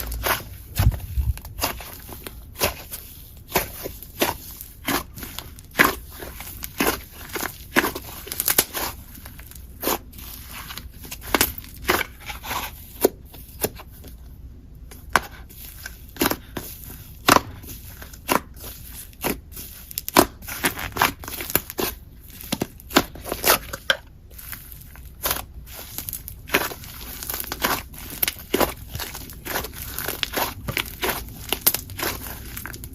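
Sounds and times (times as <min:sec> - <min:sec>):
slime squished by hand: 0:00.0 - 0:13.0, 0:15.0 - 0:32.9.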